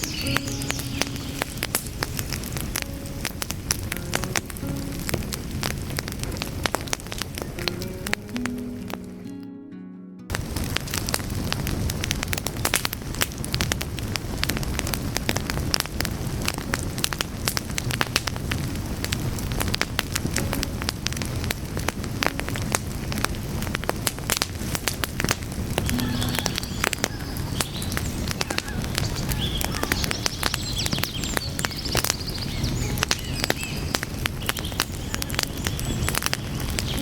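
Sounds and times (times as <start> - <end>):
low rush of flame: 0.0 - 8.9, 10.3 - 37.0
wood fire crackling: 0.0 - 9.4, 10.3 - 37.0.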